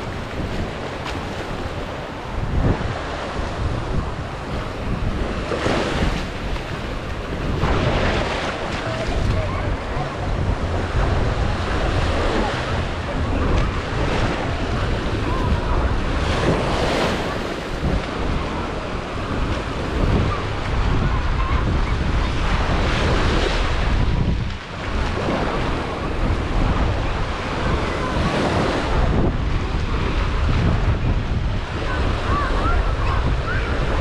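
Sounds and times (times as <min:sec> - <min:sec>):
surf breaking on beach: 0:00.0 - 0:34.0
wind rumbling on microphone: 0:00.0 - 0:34.0.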